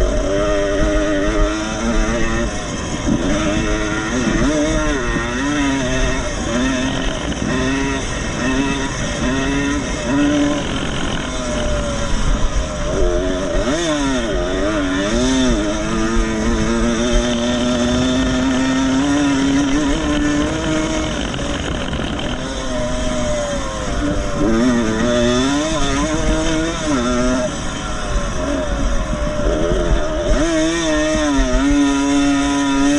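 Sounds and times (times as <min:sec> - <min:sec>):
two-stroke motorcycle racing: 0:00.0 - 0:32.9.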